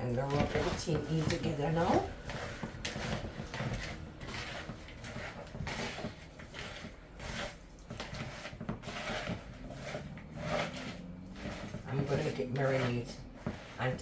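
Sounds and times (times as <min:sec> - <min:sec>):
hands rubbing raw chicken: 0:00.2 - 0:14.0.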